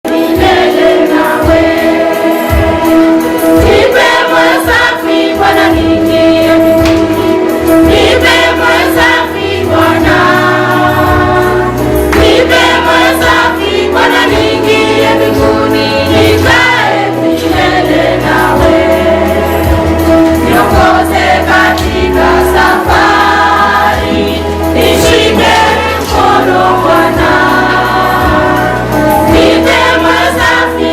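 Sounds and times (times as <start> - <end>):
gospel choir singing: 0.0 - 30.9
steady bass line: 0.2 - 30.9.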